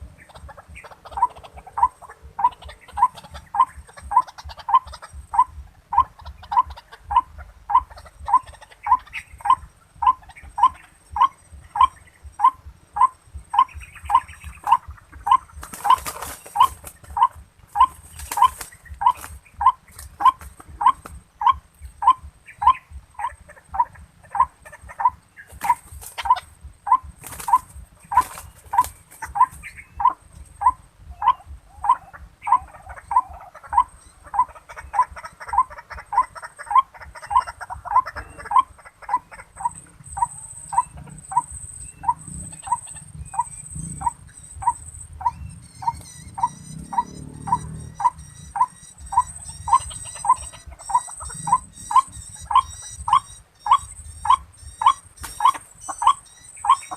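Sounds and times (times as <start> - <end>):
faint high chirping: 0.0 - 56.9
waterhen calling: 0.0 - 56.9.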